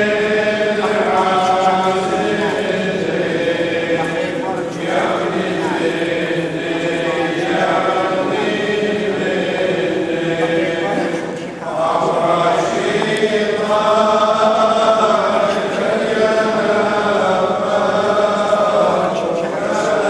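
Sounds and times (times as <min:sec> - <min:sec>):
group singing chant: 0:00.0 - 0:20.0.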